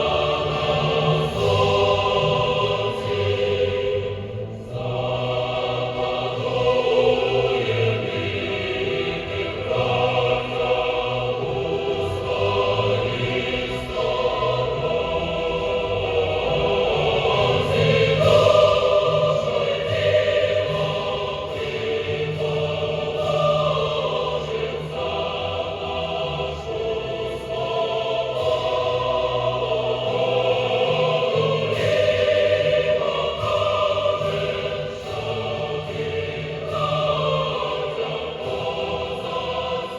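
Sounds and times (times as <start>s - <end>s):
choir singing long notes: 0.0s - 39.9s.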